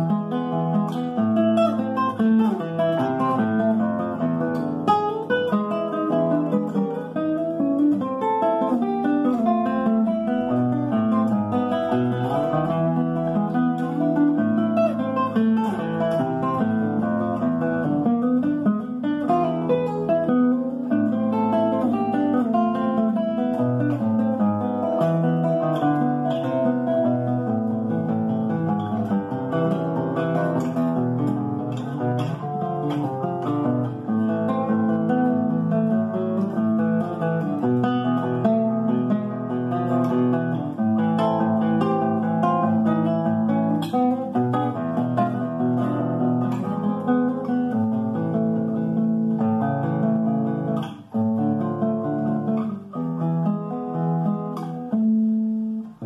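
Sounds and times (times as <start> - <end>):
classical guitar playing: 0.0 - 56.0.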